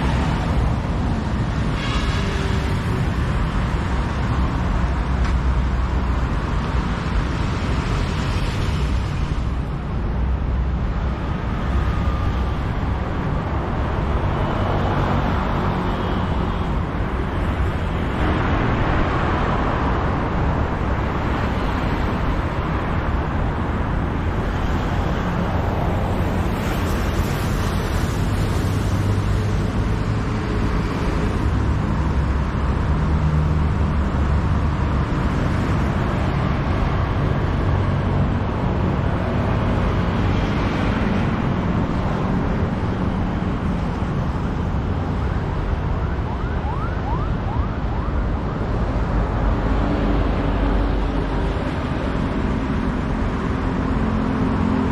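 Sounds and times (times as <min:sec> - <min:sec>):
traffic rumble: 0:00.0 - 0:54.9.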